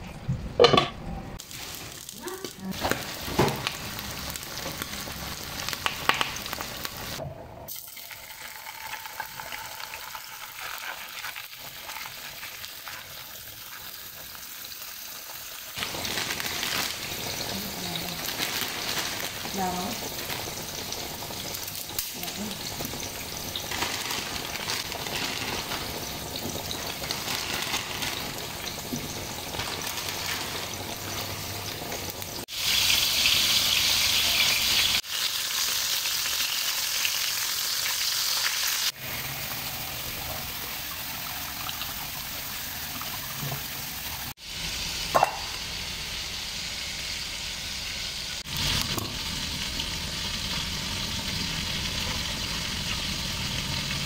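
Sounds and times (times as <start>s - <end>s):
hot dogs sizzling in oil: 1.4s - 54.0s.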